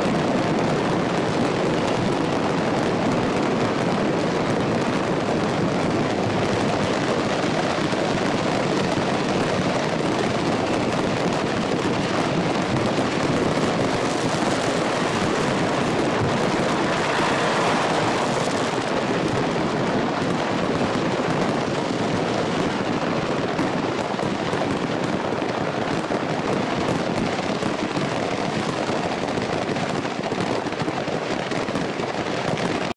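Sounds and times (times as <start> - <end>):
fireworks crackling: 0.0 - 32.9.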